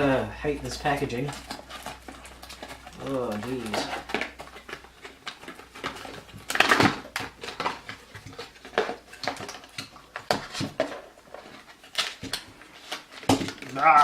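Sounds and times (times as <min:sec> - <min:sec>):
packaging crackling and rattling: 0:00.0 - 0:14.0.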